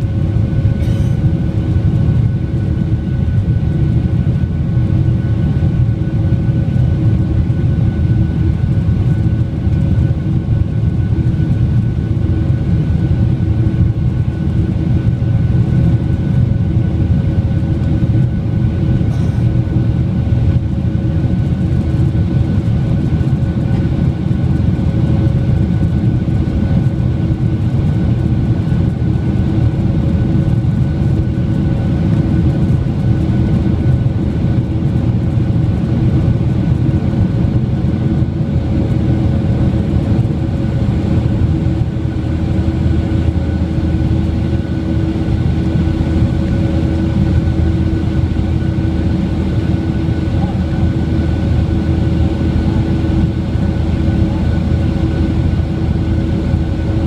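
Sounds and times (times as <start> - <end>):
jet engine rumble and whine: 0.0 - 57.0.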